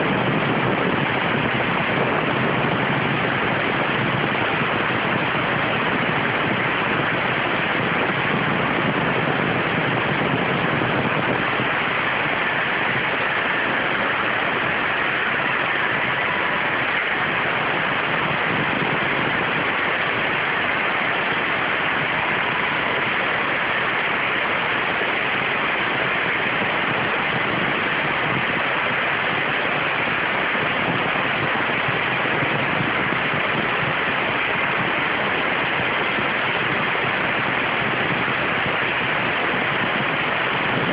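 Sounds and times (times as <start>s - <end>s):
waterjet cutter hissing: 0.0s - 40.9s.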